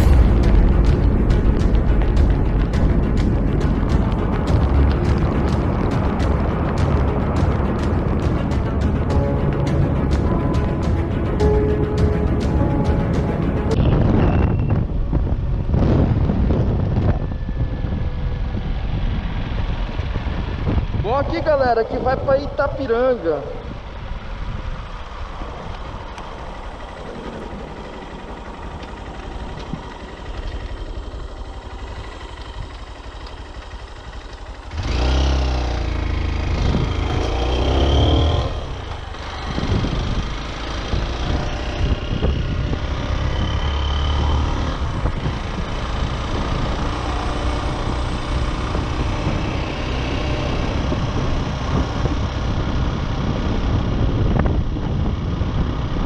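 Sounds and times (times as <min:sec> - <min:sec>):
motorcycle engine accelerating: 0:00.0 - 0:21.2, 0:23.6 - 0:56.0
road noise: 0:00.0 - 0:56.0.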